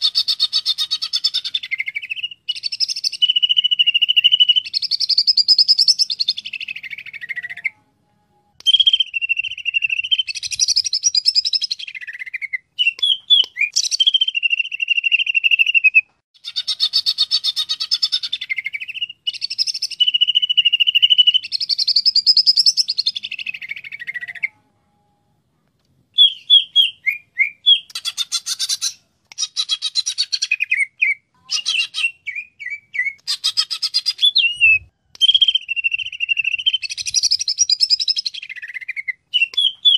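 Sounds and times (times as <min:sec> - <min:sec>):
bird singing whistles and trills: 0:00.0 - 0:07.8, 0:08.5 - 0:24.6, 0:26.2 - 0:39.9.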